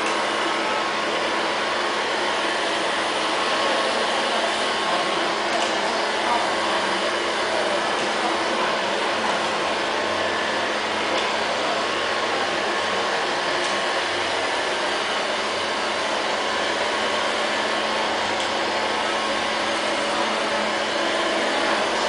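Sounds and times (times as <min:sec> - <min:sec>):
robot vacuum cleaner whirring: 0:00.0 - 0:22.0.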